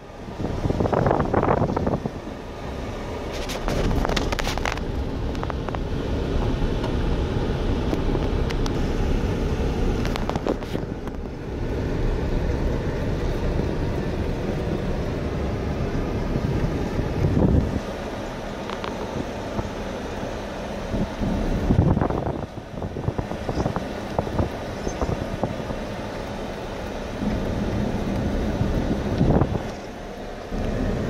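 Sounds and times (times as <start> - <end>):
low rumble of engine and tyres: 0.0 - 31.0.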